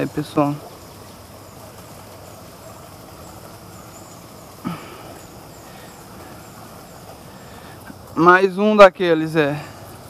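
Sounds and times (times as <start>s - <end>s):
steady ambient hiss: 0.0s - 10.0s.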